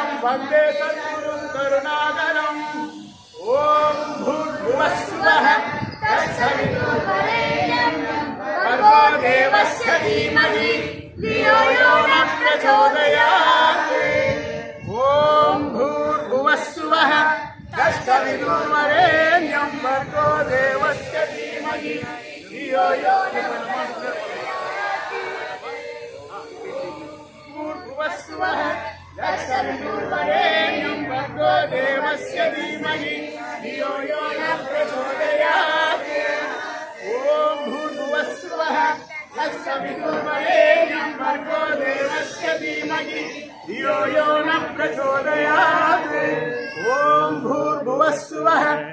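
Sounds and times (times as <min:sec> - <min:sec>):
group singing devotional song: 0:00.0 - 0:48.9.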